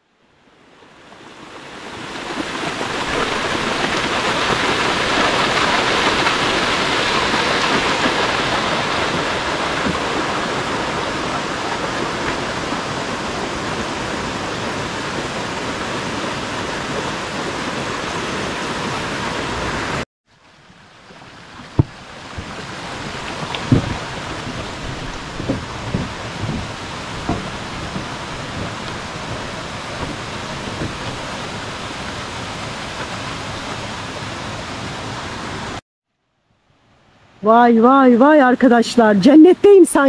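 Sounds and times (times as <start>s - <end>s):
waterfall rushing water: 0.3s - 35.8s.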